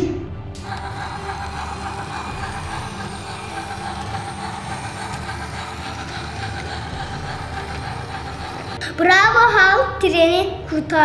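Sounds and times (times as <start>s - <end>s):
toy train motor whirring: 0.6s - 9.6s
toy train wheels rolling: 0.6s - 9.6s.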